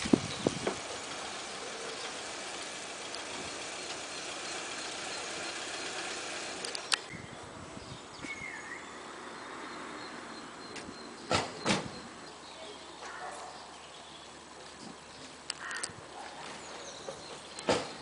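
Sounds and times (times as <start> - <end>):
engine-like hum: 0.0 - 18.0.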